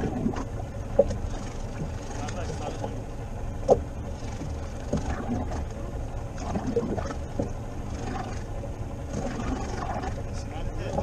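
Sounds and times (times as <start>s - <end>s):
wind and water against hull: 0.0s - 11.0s.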